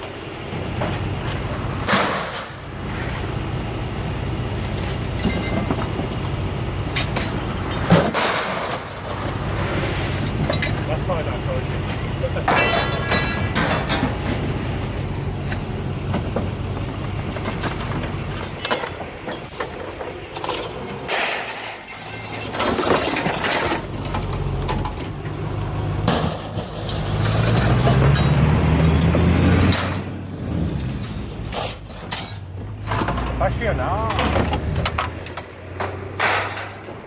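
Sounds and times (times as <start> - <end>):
heavy engine humming: 0.0 - 37.0
scrap metal crashing clangs: 0.6 - 3.5, 4.7 - 6.2, 6.9 - 16.6, 17.4 - 25.0, 26.0 - 37.0.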